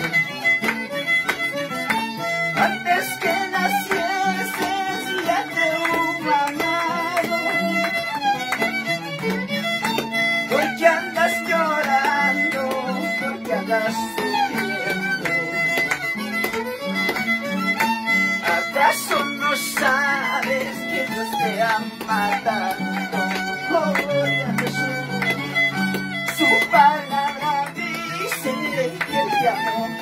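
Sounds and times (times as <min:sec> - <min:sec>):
violin melody: 0:00.0 - 0:30.0.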